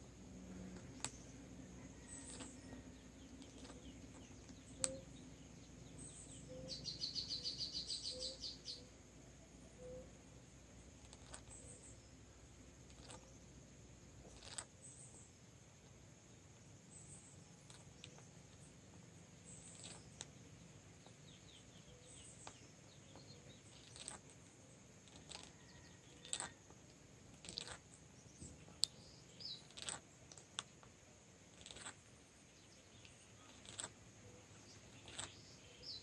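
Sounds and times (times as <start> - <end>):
faint high hiss: 0.0 - 36.0
faint bird chirps and clicks: 0.4 - 36.0.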